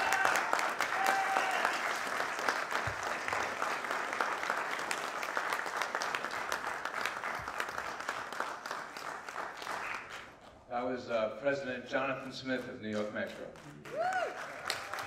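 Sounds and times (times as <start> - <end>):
audience applauding: 0.0 - 10.5, 13.4 - 15.0.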